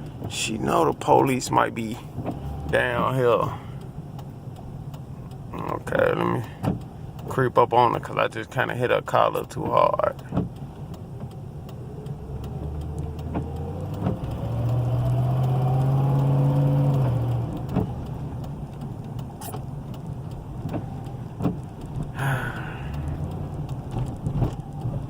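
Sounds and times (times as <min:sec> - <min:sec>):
car engine running under load: 0:00.0 - 0:25.0.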